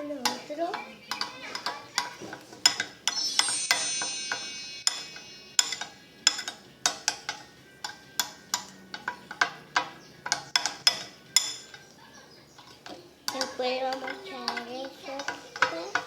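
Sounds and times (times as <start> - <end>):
spoon clinking against pot: 0.0 - 16.0.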